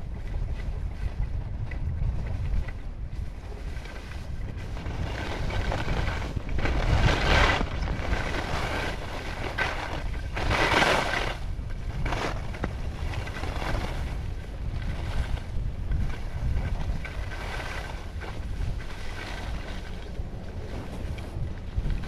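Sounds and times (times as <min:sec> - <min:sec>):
wind buffeting microphone: 0:00.0 - 0:22.0
skis scraping on snow: 0:00.1 - 0:22.0.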